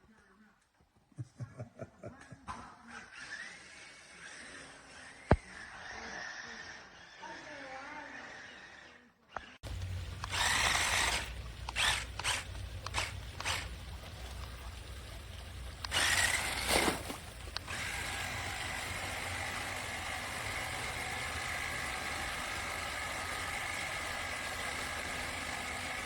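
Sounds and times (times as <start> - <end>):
toy truck electric motor whir: 2.8 - 26.0.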